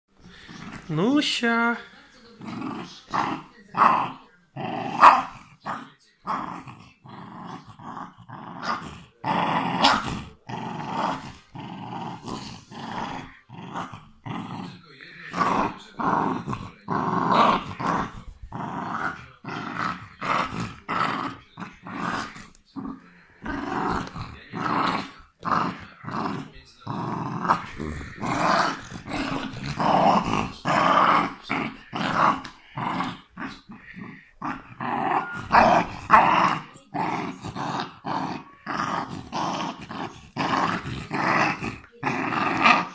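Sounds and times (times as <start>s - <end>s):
dog growling: 0.2s - 1.1s, 1.8s - 42.9s.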